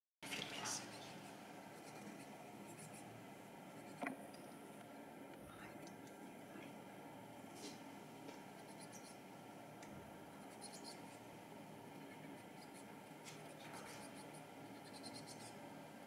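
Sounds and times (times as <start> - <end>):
low steady background hush: 0.2 - 16.0.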